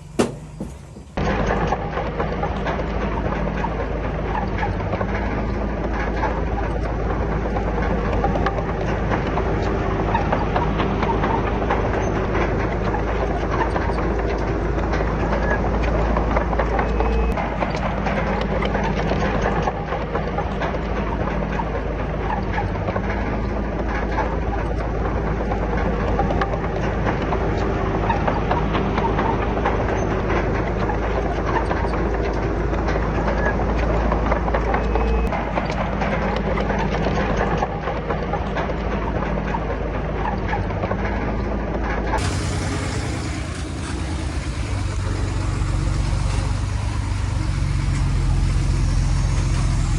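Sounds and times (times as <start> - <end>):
diesel engine under load: 0.0 - 49.9
steel crawler tracks clanking: 0.0 - 49.9.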